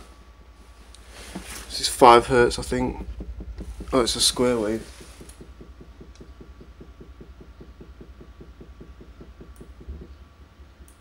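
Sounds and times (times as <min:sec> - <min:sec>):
subwoofer low pulsing tone: 0:00.0 - 0:11.0.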